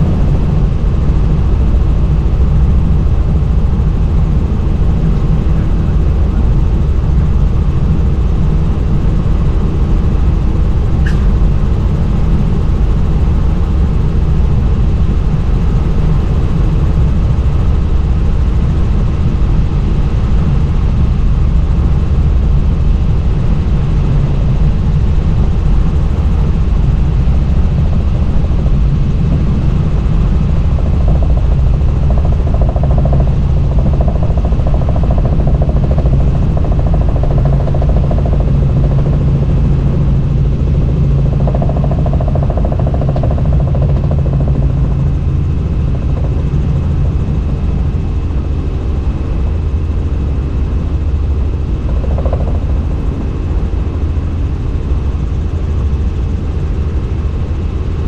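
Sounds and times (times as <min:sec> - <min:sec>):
helicopter rotor and engine drone: 0:00.0 - 0:58.0
low hum: 0:00.0 - 0:58.0.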